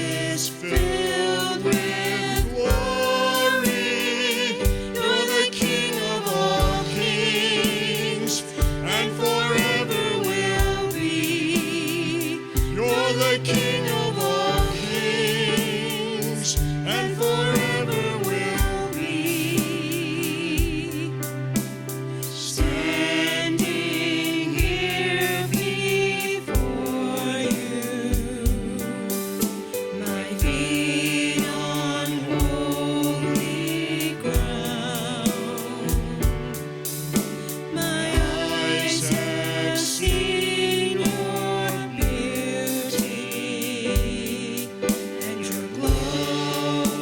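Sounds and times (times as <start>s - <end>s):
voices singing over a band: 0.0s - 21.2s, 22.2s - 47.0s
gospel worship music: 0.0s - 47.0s
drum beat: 0.8s - 19.2s, 22.6s - 27.0s, 30.1s - 43.0s, 44.0s - 47.0s.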